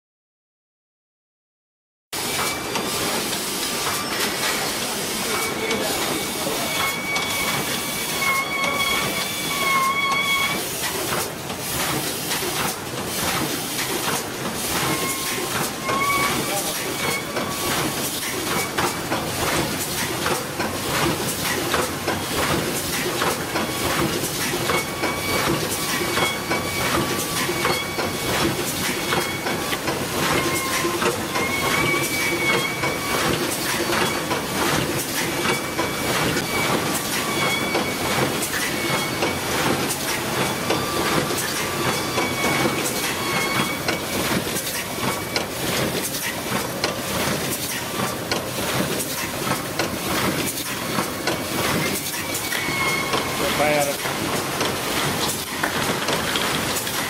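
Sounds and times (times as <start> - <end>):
printing machine clattering clicks: 2.2 - 57.0.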